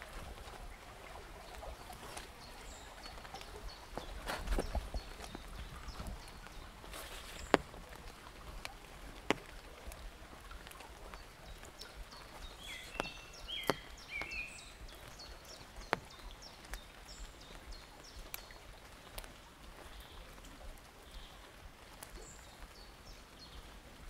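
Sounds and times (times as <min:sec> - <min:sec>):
small birds chirping: 0:00.0 - 0:24.0
stream trickling: 0:00.0 - 0:24.0.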